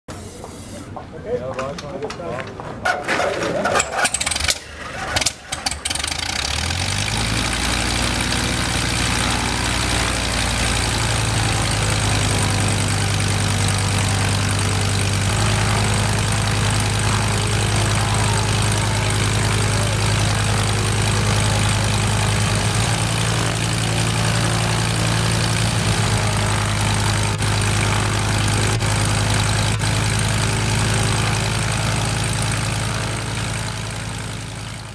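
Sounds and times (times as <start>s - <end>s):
aircraft engine starting and idling: 2.9s - 34.9s.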